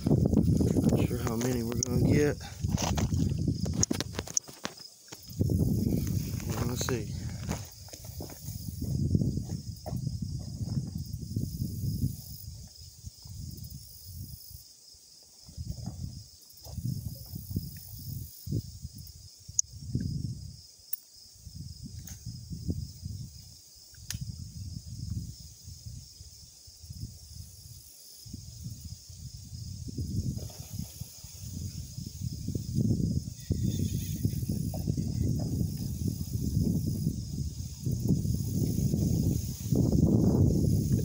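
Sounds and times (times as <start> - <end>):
wind buffeting microphone: 0.0 - 4.4, 5.2 - 14.4, 15.4 - 20.7, 21.4 - 41.0
insects chirring: 0.0 - 41.0.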